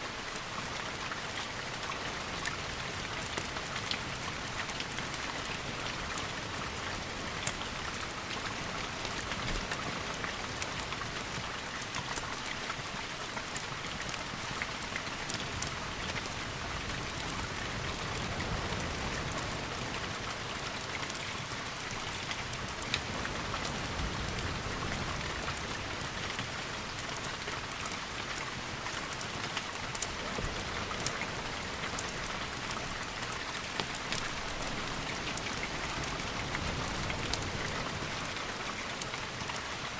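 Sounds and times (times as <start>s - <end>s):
rain hiss: 0.0s - 39.9s
sharp raindrop ticks: 0.2s - 39.9s.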